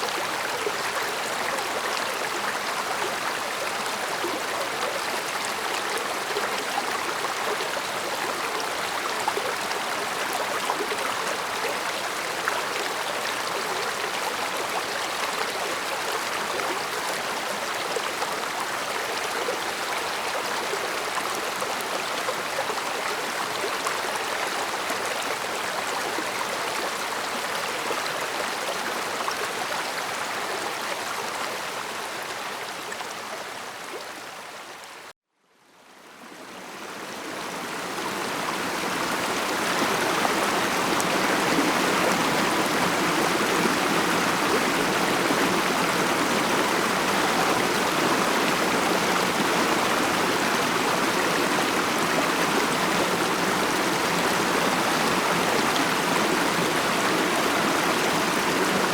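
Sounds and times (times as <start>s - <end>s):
stream water flowing: 0.0s - 35.1s, 35.8s - 58.9s.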